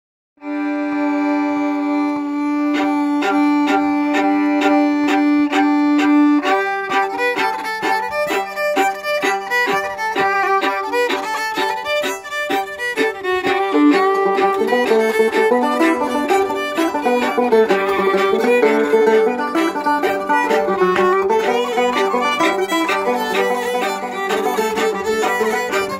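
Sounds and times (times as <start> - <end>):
banjo playing: 0.4 - 25.9
fiddles playing a folk tune: 0.4 - 25.9.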